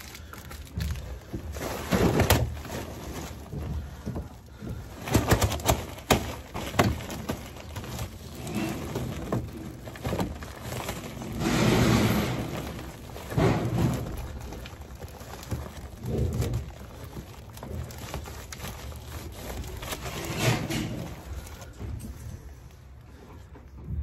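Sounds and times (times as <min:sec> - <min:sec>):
plastic liner rustling: 0:00.0 - 0:23.9.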